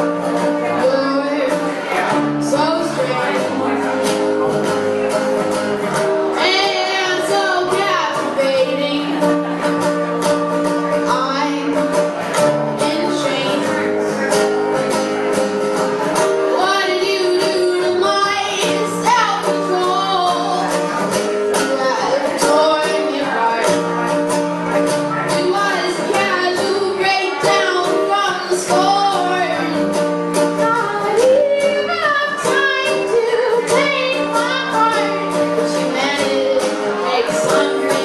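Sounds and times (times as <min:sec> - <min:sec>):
person singing: 0:00.0 - 0:38.0
strummed acoustic guitar: 0:00.0 - 0:38.0.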